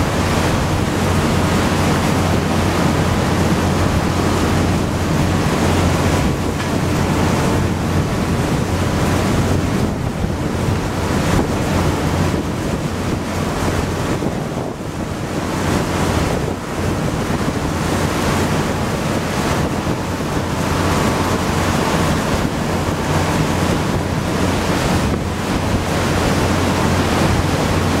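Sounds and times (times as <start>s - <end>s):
boat engine drone: 0.0s - 28.0s
water rushing past hull: 0.0s - 28.0s
wind buffeting microphone: 0.0s - 28.0s.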